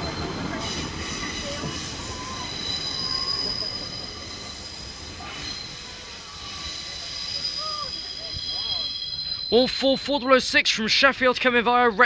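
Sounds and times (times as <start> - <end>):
train wheels squealing: 0.0 - 10.6
train rumble: 0.0 - 11.6.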